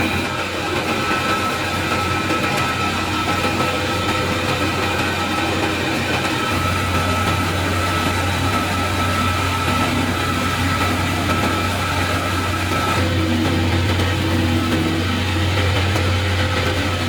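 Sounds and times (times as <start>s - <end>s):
motor running with high whine: 0.0s - 17.0s.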